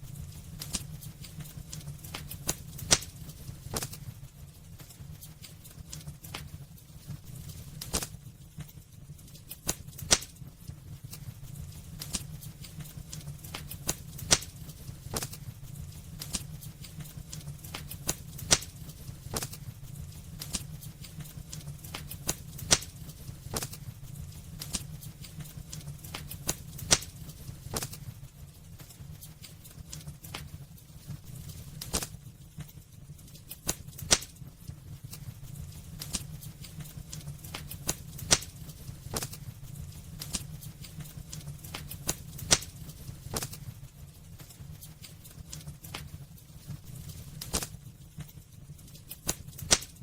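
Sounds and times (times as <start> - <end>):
low rumble of flames: 0.0 - 50.0
wood fire crackling and popping: 0.0 - 50.0.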